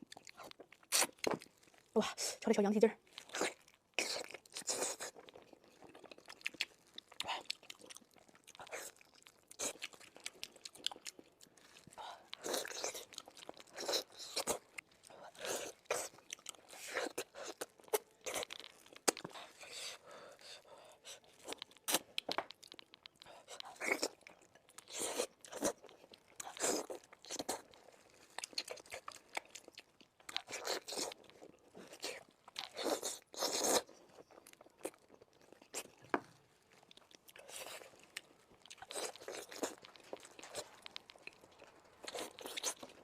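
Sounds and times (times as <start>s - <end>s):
person chewing bones: 0.0s - 1.9s, 3.1s - 43.0s.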